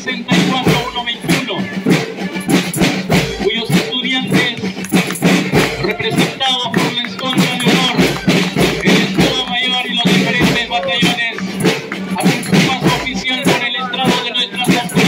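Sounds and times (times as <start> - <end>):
drums and cymbals beat: 0.0 - 15.0
brass playing a march: 0.6 - 15.0.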